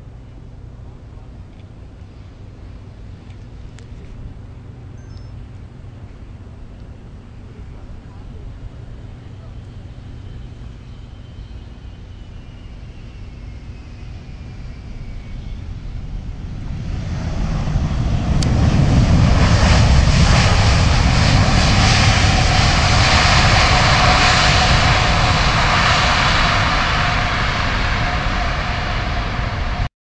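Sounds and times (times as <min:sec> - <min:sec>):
jet engines roaring with whine: 0:00.0 - 0:29.9.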